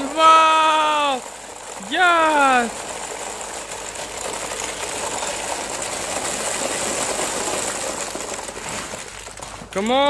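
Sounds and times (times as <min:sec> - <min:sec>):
ping pong balls rattling: 0:00.0 - 0:10.0.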